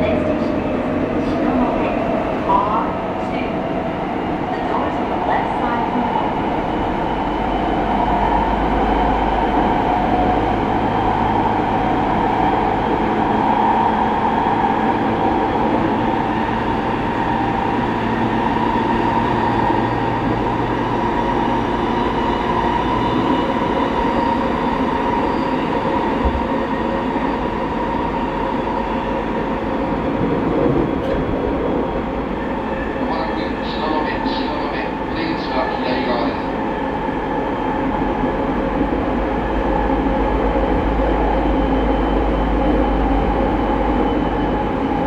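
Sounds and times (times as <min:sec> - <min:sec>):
electric train hum: 0:00.0 - 0:45.0
wheels rumbling on rail: 0:00.0 - 0:45.0.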